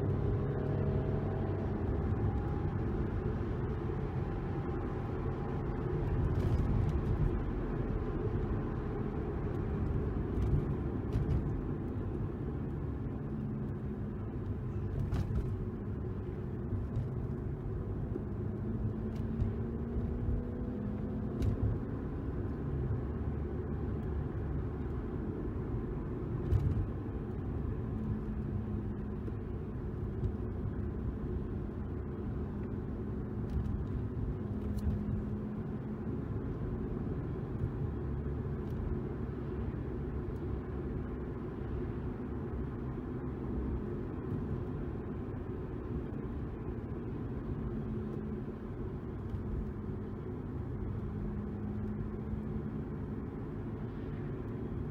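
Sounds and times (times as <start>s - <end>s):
car exhaust rumble: 0.0s - 54.9s.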